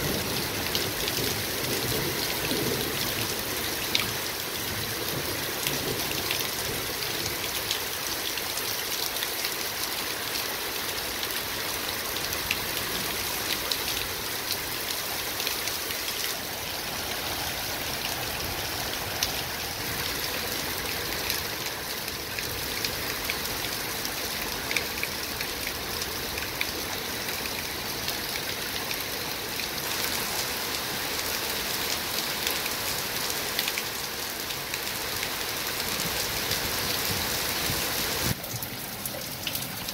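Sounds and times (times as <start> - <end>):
heavy rain on paving stones: 0.0 - 39.9
raindrops ticking on hard surfaces: 0.0 - 39.9.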